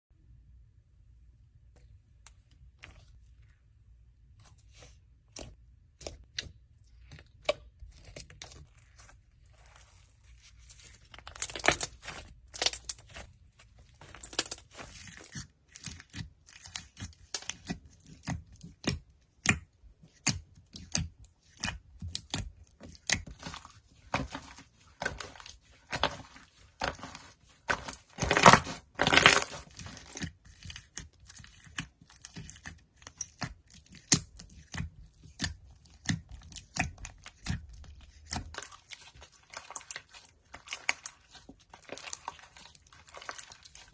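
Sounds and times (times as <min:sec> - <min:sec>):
fingers squishing crackling slime: 0:04.7 - 0:13.3, 0:14.0 - 0:43.9.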